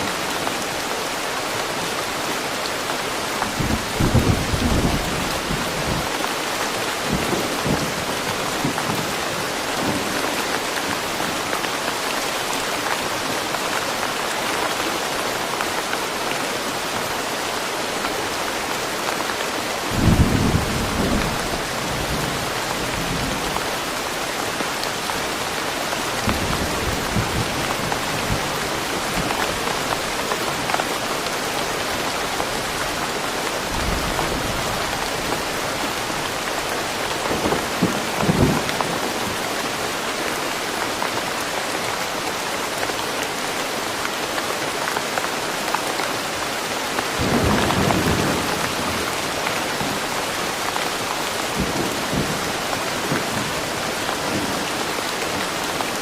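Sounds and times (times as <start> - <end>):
steady rain in a forest: 0.0 - 56.0.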